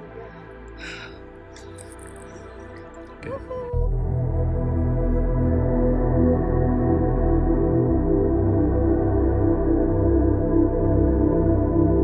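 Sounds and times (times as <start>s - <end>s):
low pulsing bass: 1.3s - 12.0s.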